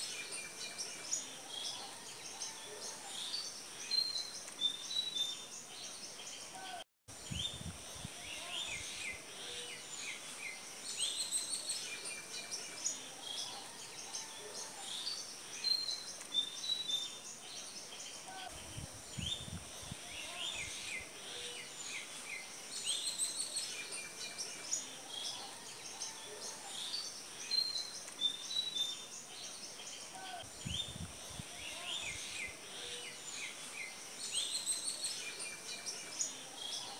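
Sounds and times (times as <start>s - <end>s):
faint steady hiss: 0.0s - 36.9s
small birds chirping: 0.0s - 36.9s.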